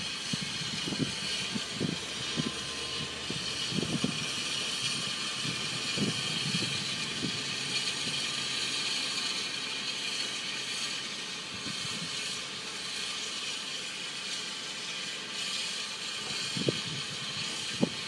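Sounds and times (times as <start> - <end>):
steam locomotive hissing: 0.0 - 18.0.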